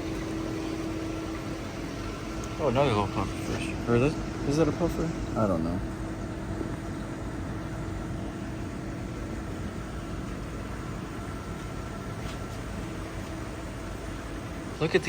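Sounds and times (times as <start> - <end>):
aquarium room hum and hiss: 0.0 - 15.0.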